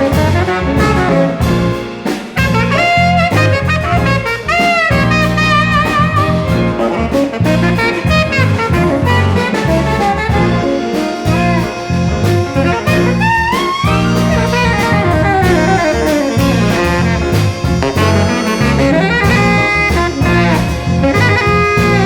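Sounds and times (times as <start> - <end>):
jazz ensemble playing: 0.0 - 22.0
tenor saxophone with sliding notes: 0.0 - 22.0.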